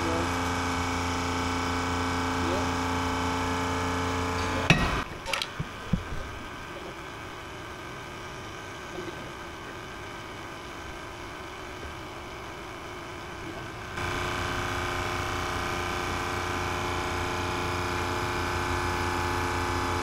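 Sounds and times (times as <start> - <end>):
hydraulic power pack droning: 0.0 - 20.0.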